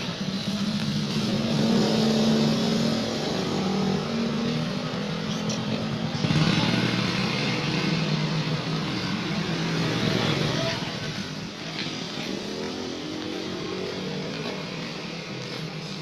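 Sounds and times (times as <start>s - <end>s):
broad rushing noise: 0.0s - 16.0s
engine running: 0.0s - 16.0s.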